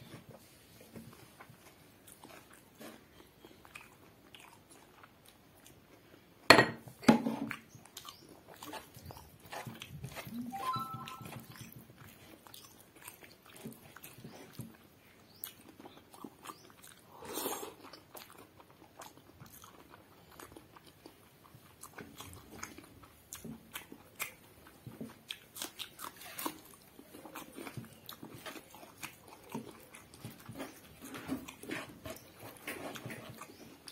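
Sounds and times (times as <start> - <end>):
person chewing food: 0.0 - 6.5, 7.4 - 33.9.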